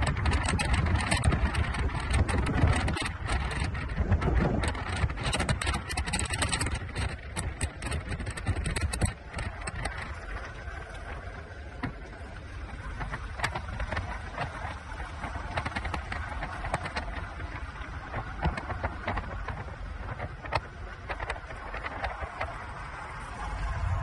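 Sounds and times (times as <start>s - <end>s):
sharp crackles: 0.0s - 23.3s
car road and engine rumble: 0.0s - 24.0s.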